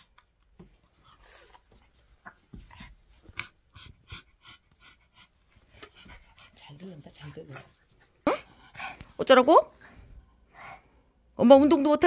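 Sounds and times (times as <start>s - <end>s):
dog panting: 0.7s - 11.0s.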